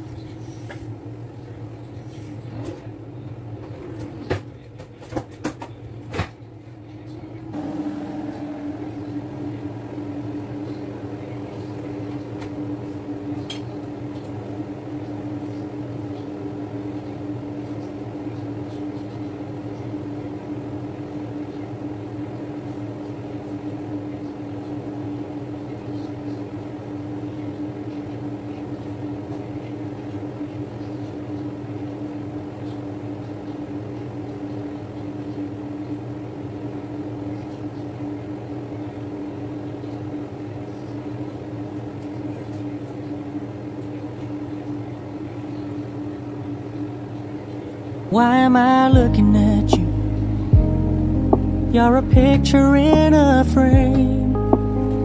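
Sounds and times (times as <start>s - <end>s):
range hood fan humming: 0.0s - 55.0s.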